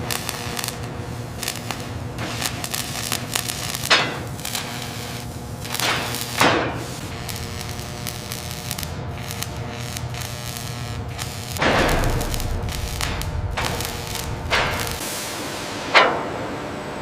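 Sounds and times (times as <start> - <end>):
steady tool hum: 0.0 - 17.0.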